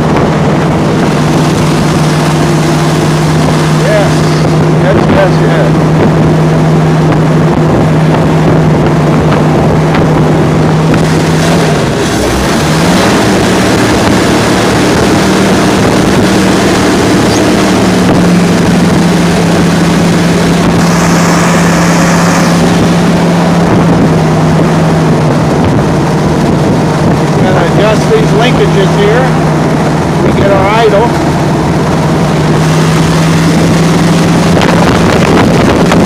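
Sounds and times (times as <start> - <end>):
gasoline engine running: 0.0 - 36.0.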